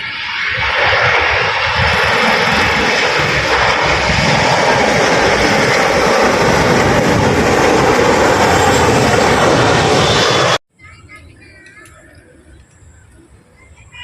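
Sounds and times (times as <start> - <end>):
jet airliner engines: 0.0 - 14.0.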